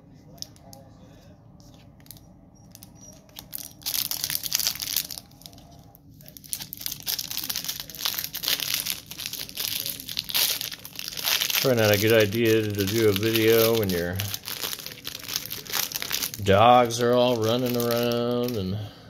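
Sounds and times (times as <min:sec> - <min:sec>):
plastic wrapper crinkling: 0:01.6 - 0:18.8.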